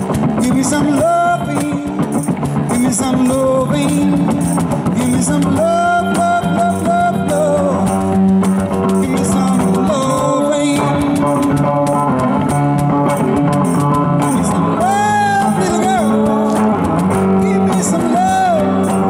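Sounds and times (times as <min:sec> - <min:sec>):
electric bass: 0:00.0 - 0:19.0
electric guitar: 0:00.0 - 0:19.0
person singing: 0:00.2 - 0:08.2, 0:09.0 - 0:12.0, 0:14.2 - 0:19.0.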